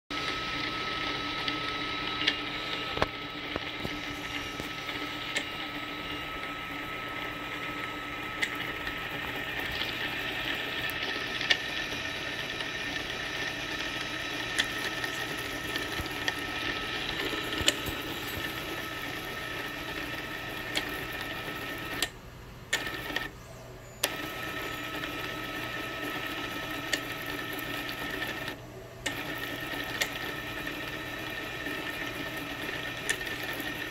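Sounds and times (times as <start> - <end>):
stepper motor whine: 0.1 - 33.9.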